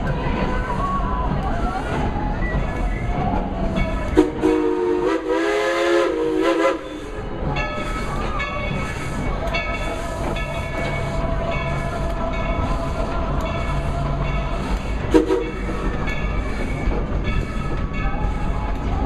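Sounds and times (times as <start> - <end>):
steam locomotive chuffing: 0.0 - 19.0
train rumble: 0.0 - 19.0.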